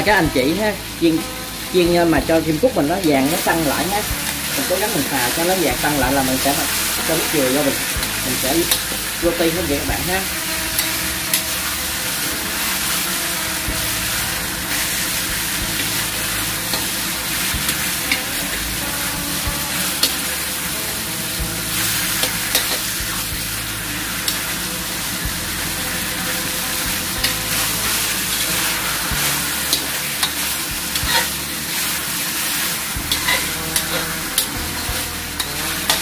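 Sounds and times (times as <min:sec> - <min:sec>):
meat sizzling in oil: 0:00.0 - 0:36.0
metal spatula scraping a pan: 0:03.2 - 0:36.0.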